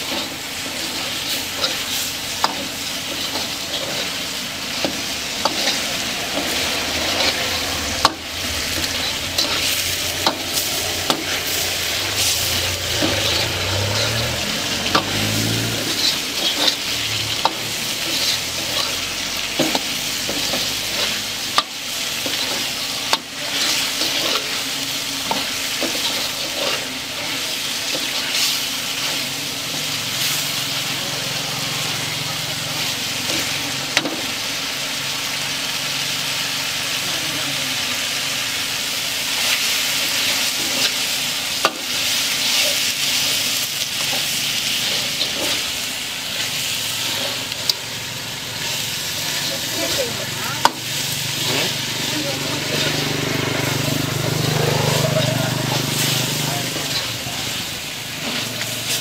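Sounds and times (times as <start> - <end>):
metal ladle scraping a pan: 0.0 - 30.5, 39.4 - 59.0
food sizzling in a pan: 0.0 - 59.0.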